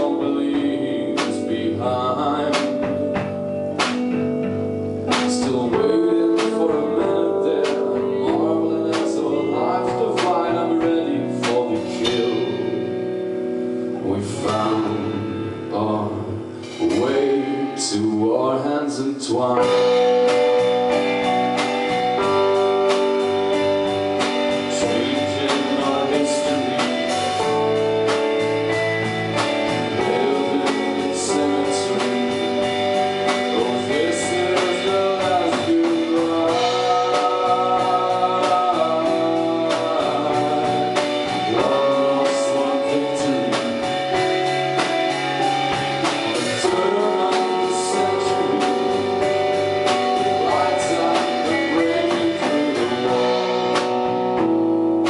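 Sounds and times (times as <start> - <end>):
person singing: 0.0 - 4.1, 5.0 - 54.6
bass: 0.0 - 55.0
drums: 0.0 - 55.0
electric guitar: 0.0 - 55.0.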